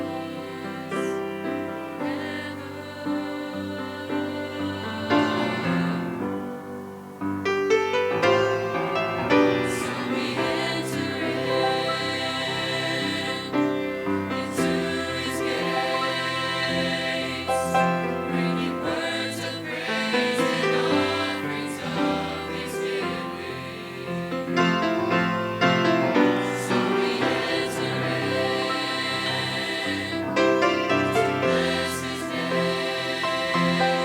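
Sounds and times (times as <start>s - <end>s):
mixed choir singing in harmony: 0.0s - 34.0s.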